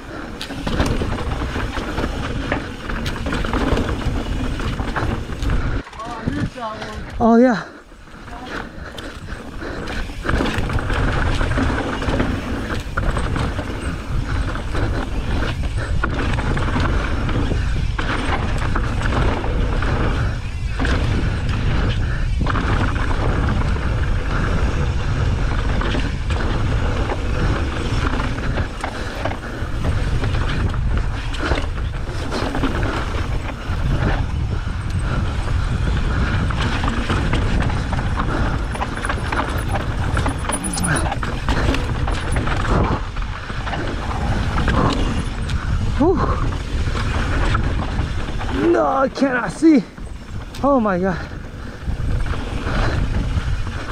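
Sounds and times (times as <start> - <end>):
tyres rolling on dirt and rock: 0.0 - 53.9
wind rumble on microphone: 0.0 - 53.9.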